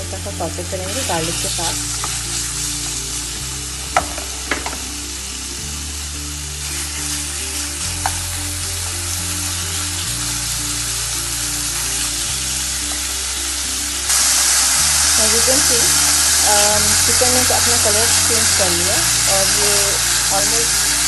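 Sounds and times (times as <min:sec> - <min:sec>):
chicken sizzling in a pan: 0:00.0 - 0:21.0.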